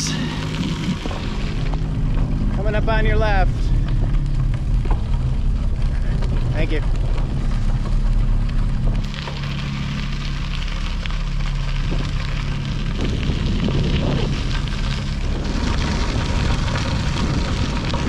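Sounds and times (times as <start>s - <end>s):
bike tyres rolling on trail: 0.0s - 18.0s
wind buffeting microphone: 0.0s - 18.0s.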